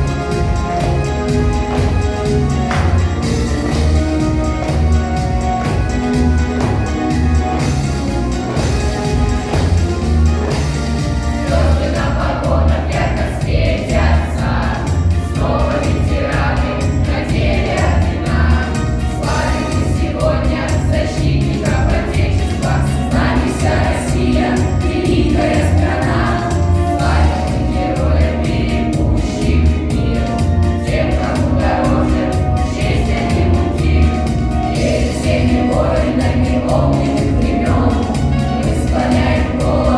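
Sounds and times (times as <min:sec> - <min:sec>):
backing track with pulsing bass: 0:00.0 - 0:39.9
choir singing: 0:01.8 - 0:39.9.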